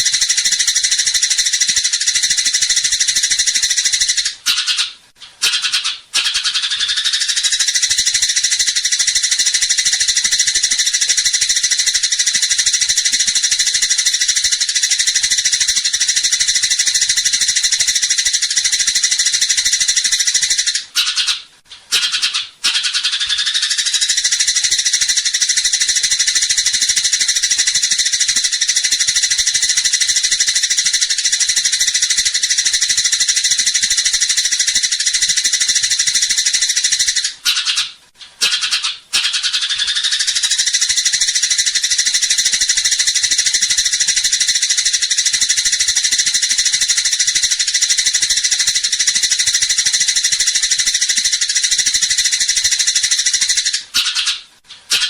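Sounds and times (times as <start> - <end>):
sparrows chattering: 0.0 - 55.0.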